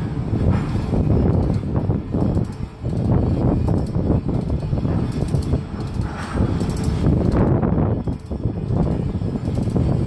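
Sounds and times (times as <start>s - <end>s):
ratchet binder working: 1.1s - 10.0s
steel chains rattling: 1.2s - 10.0s.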